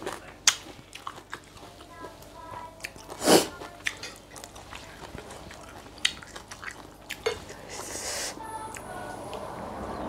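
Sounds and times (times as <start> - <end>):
wet chewing and sucking: 0.0 - 8.8.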